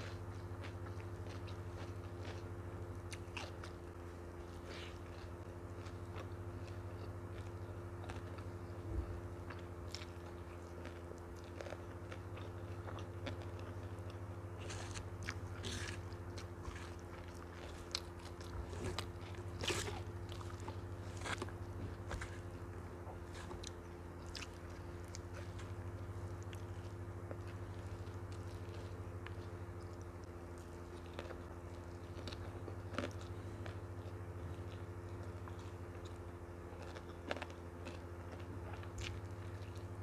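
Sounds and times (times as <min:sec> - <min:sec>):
steady low hum: 0:00.0 - 0:40.0
wet chewing clicks and smacks: 0:00.1 - 0:03.8, 0:09.4 - 0:40.0.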